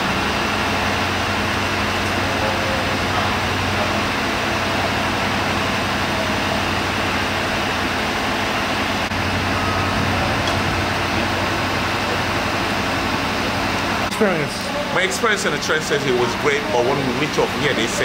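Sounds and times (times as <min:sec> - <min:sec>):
low mechanical drone: 0:00.0 - 0:18.0.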